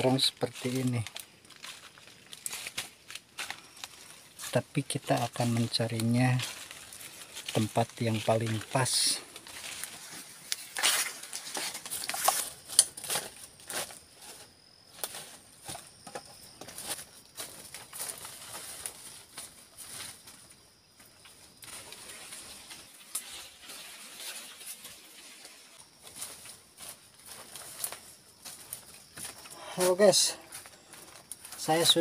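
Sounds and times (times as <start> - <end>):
footsteps crunching on dry leaves: 0.0 - 32.0
brushing through undergrowth: 0.6 - 16.0, 21.5 - 32.0.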